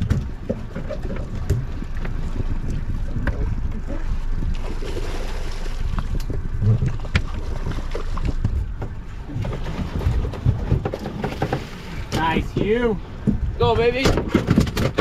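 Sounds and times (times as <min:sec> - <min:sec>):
water against boat hull: 0:00.0 - 0:15.0
wind rumbling on microphone: 0:00.0 - 0:15.0.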